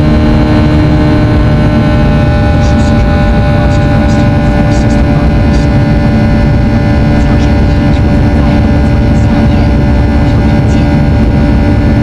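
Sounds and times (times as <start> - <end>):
airplane cabin jet drone: 0.0 - 12.0.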